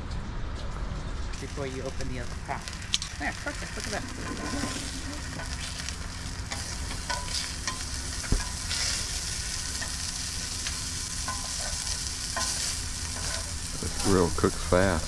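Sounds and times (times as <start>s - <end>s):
food sizzling on griddle: 1.4s - 15.0s.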